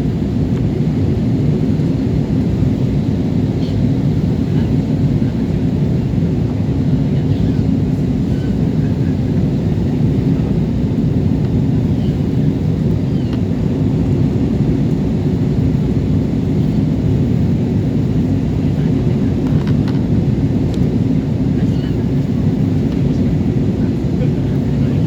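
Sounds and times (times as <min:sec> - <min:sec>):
jet engine rumble in cabin: 0:00.0 - 0:25.0.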